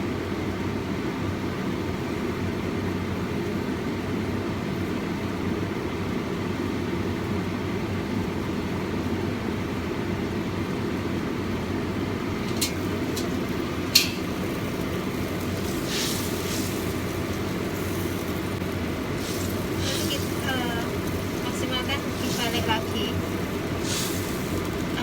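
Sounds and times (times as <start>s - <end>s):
low rumbling kitchen noise: 0.0s - 25.0s.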